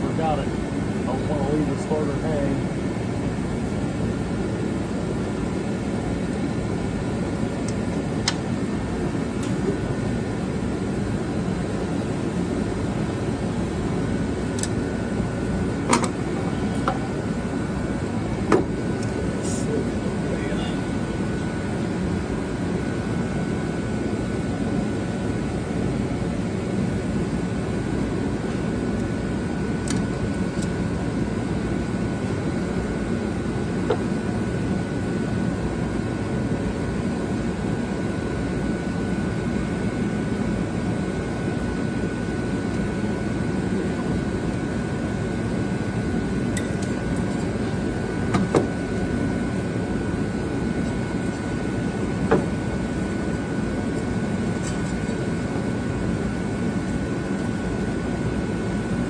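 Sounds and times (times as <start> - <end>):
machine droning with faint whine: 0.0 - 59.0.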